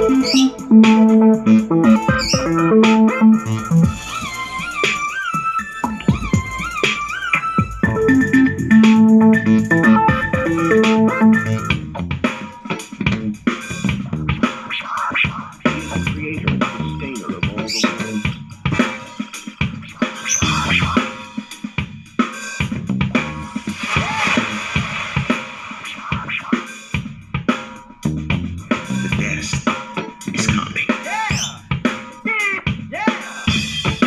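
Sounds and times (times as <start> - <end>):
music through speaker: 0.0 - 28.0, 28.7 - 34.0.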